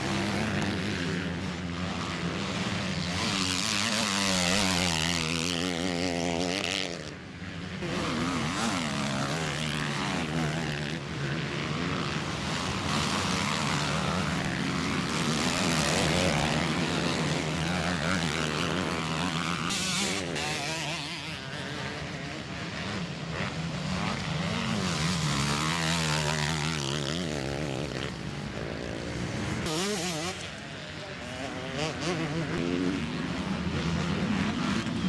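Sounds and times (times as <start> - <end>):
motocross bike engines revving: 0.0 - 35.0.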